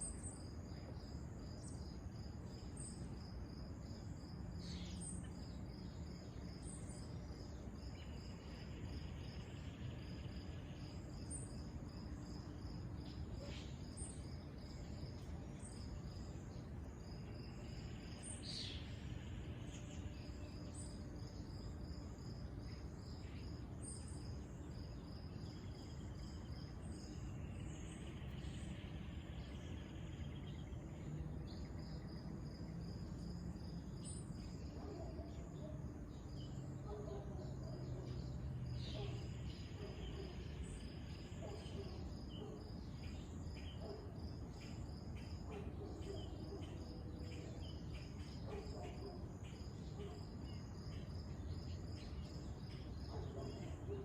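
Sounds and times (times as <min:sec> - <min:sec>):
insects chirping: 0:00.0 - 0:54.0
low steady hiss: 0:00.0 - 0:54.0.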